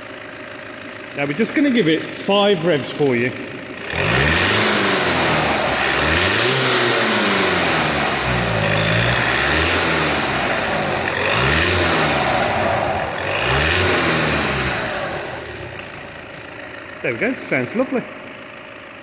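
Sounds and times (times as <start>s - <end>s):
diesel engine revving: 1.1s - 18.6s.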